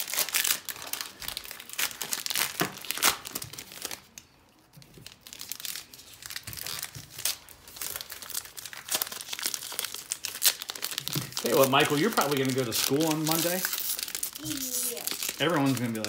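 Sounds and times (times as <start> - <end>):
card packs torn and wrappers crinkled: 0.0 - 16.0.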